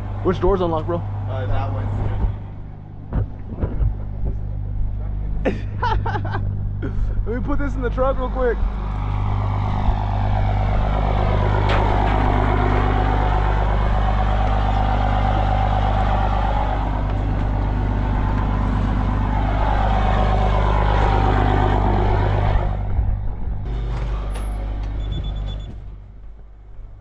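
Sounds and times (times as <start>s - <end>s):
higher engine tone: 0.0s - 26.6s
truck engine idling: 0.0s - 27.0s.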